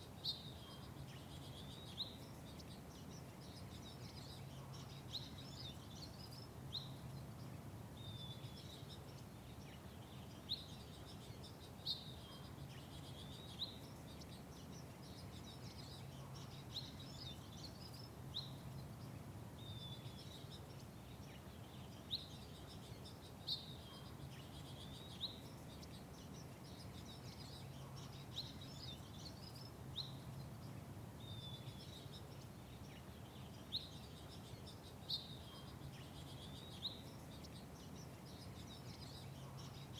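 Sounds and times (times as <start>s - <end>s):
low background hum: 0.0s - 39.9s
small birds chirping: 0.0s - 39.9s.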